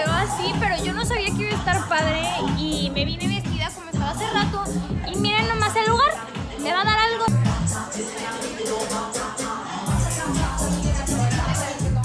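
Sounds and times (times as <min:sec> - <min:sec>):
deep bass line: 0:00.0 - 0:07.9, 0:09.9 - 0:12.0
music with steady beat: 0:00.0 - 0:12.0.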